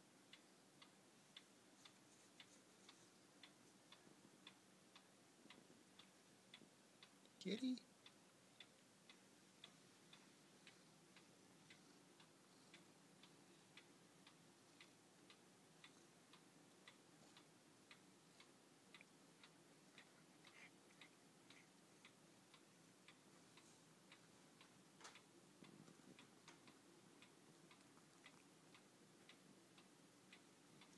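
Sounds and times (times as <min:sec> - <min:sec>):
faint steady ticking: 0:00.0 - 0:30.9.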